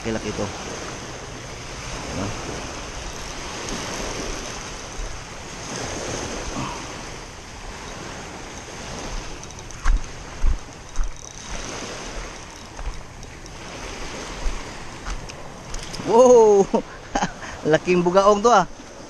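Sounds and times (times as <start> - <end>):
waves washing over pebbles: 0.0 - 16.6.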